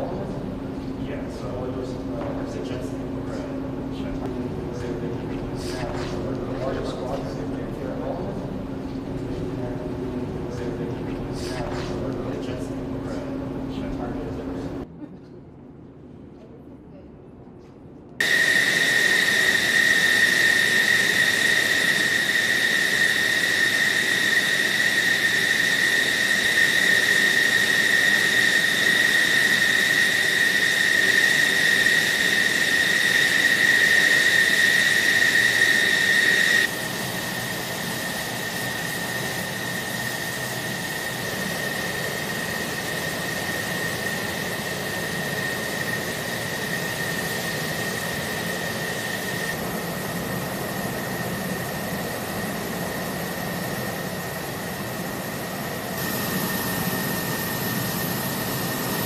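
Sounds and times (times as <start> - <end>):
jet engine whine: 0.0 - 14.9, 18.1 - 59.0.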